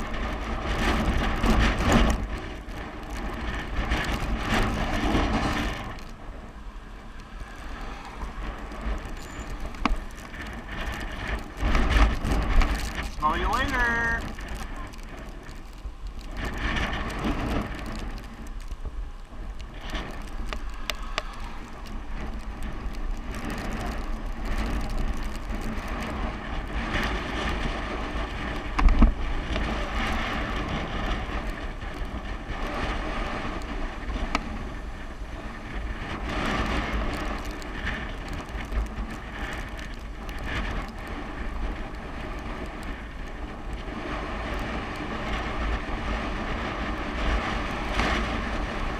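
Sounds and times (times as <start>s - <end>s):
bicycle tyres on road: 0.0s - 48.9s
wind on microphone: 0.0s - 48.9s.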